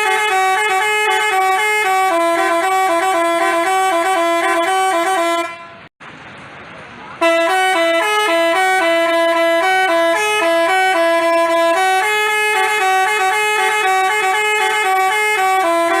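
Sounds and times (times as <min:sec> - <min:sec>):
musical horn playing a quick tune: 0:00.0 - 0:05.9, 0:07.2 - 0:16.0.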